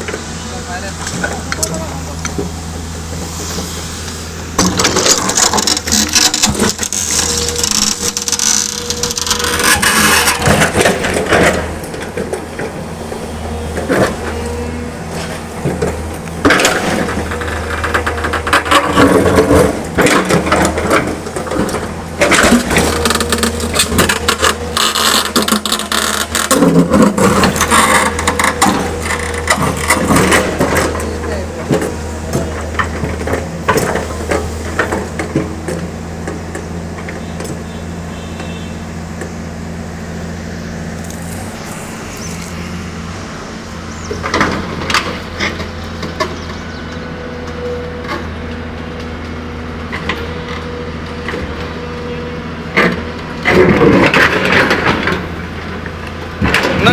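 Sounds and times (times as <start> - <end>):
bucket scraping rock and stones: 0.0 - 46.2
excavator diesel engine running: 0.0 - 56.9.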